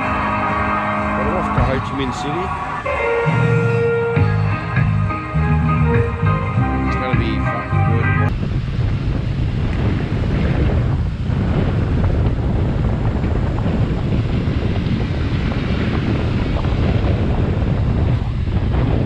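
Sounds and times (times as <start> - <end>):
vehicle noise: 0.0 - 19.0
wind rushing over microphone: 0.0 - 19.0.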